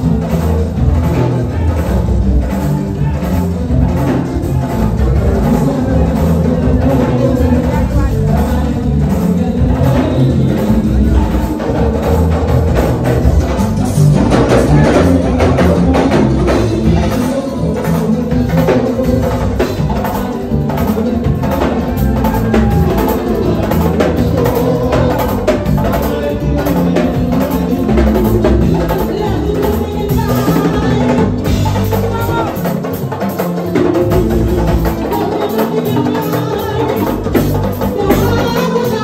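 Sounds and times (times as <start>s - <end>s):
drums and percussion beat: 0.0s - 39.0s
live band playing: 0.0s - 39.0s.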